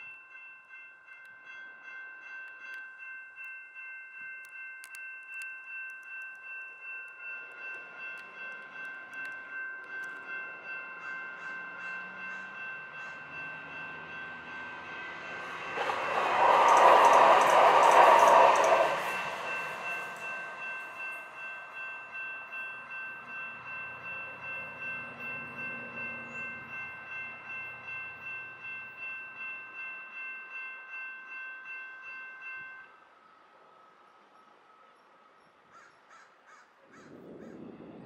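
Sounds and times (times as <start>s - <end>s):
railroad crossing bell ringing: 0.0s - 35.1s
train low rumble: 3.3s - 35.6s.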